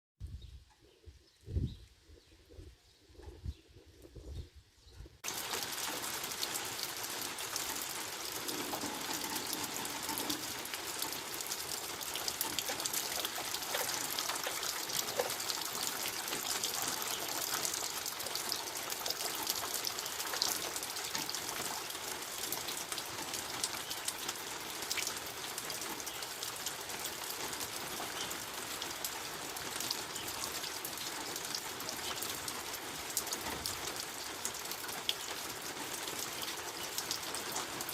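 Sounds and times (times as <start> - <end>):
steady rain falling: 5.2 - 37.9.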